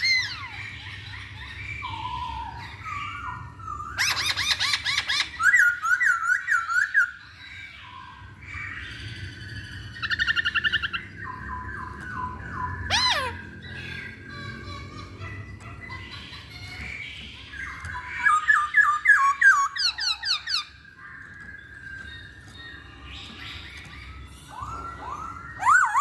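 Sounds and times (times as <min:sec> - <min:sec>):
bird singing whistled phrases and trills: 0:00.0 - 0:14.3, 0:15.8 - 0:26.0.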